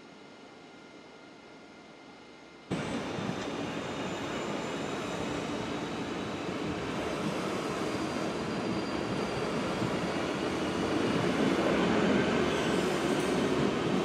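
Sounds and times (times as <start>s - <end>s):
faint high whine: 0.0s - 11.4s
electric train rolling past: 2.7s - 14.0s.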